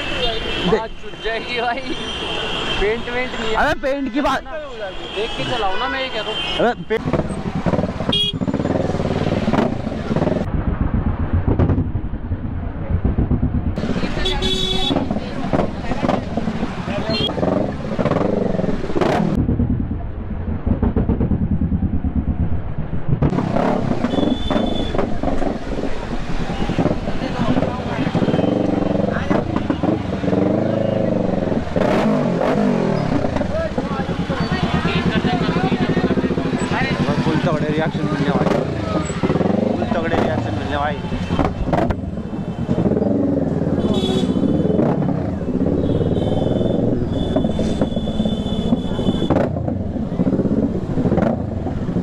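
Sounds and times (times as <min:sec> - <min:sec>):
motorcycle engine running: 0:07.0 - 0:52.0.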